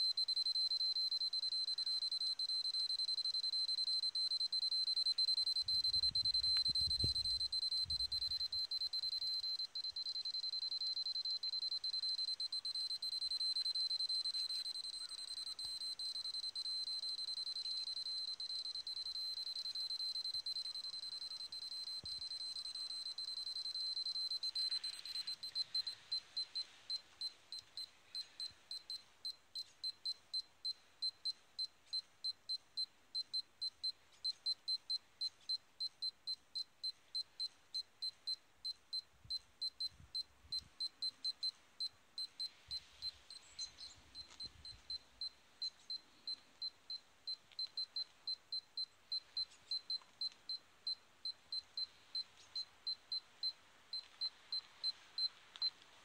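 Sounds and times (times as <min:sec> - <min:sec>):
dosimeter alarm tone and beeps: 0:00.0 - 0:55.8.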